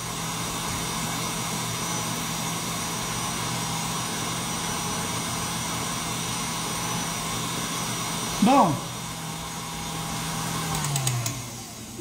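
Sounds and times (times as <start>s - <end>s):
stand mixer whisking: 0.0s - 12.0s.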